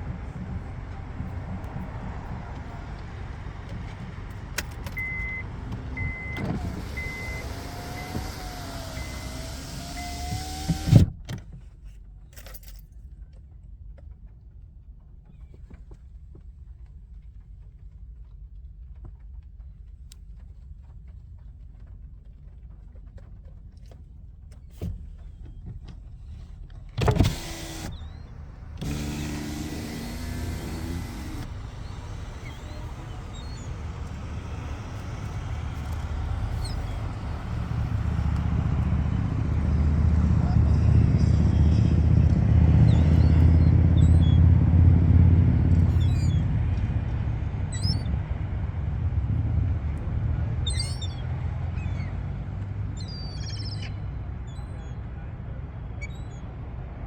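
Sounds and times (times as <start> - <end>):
car low rumble: 0.0 - 57.0.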